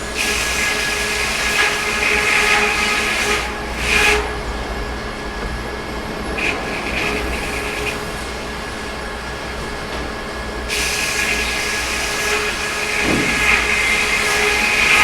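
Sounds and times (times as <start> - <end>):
sawmill machine hum: 0.0 - 15.0.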